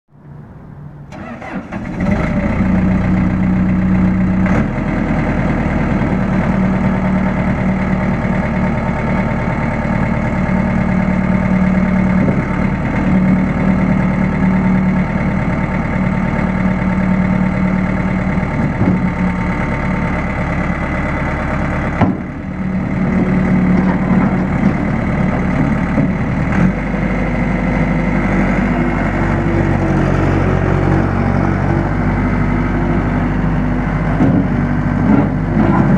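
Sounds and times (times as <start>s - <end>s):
diesel engine running: 0.2s - 35.9s.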